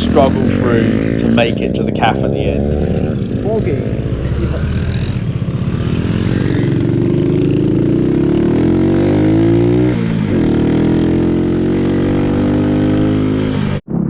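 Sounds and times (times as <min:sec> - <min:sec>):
motorcycle engine pulling under load: 0:00.0 - 0:13.7.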